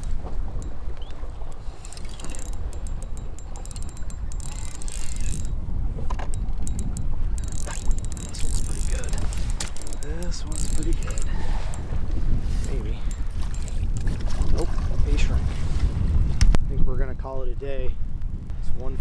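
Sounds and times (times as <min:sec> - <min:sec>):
fishing reel gears ticking: 0:00.0 - 0:15.2
water lapping: 0:00.0 - 0:16.4
wind on microphone: 0:00.0 - 0:19.0.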